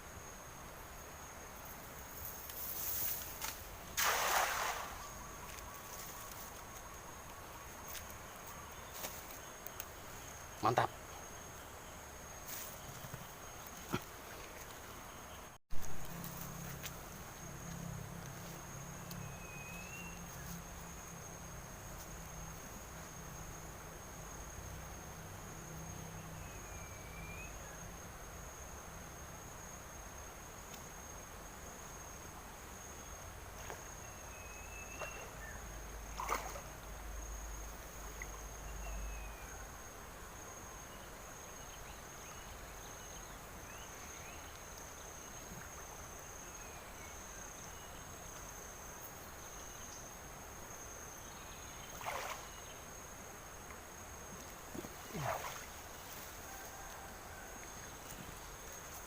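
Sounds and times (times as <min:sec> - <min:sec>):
insects trilling: 0:00.0 - 0:59.0
short insect chirp: 0:00.0 - 0:59.0.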